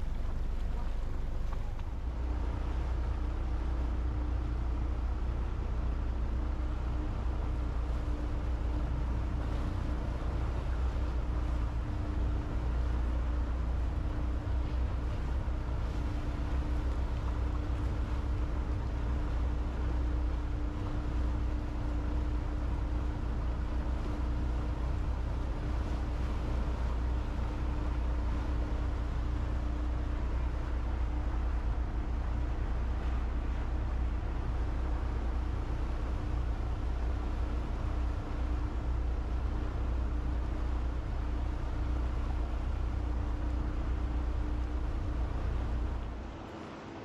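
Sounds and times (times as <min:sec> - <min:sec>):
motorboat engine droning: 0:00.0 - 0:47.0
rushing water: 0:00.0 - 0:47.0
wind: 0:00.0 - 0:47.0.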